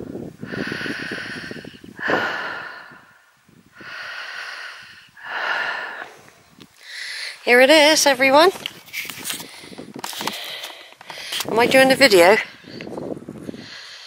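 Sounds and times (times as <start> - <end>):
person breathing hard: 0.0 - 7.5, 9.3 - 11.5, 12.4 - 14.0.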